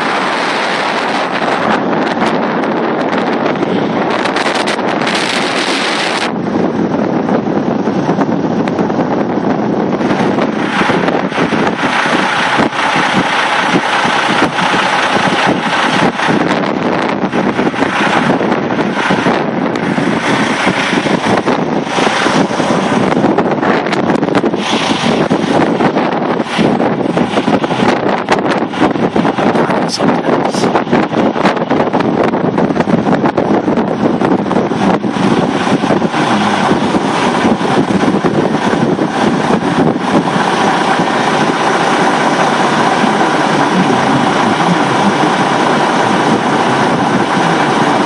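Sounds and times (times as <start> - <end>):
gusty wind buffeting microphone: 0.0 - 48.0.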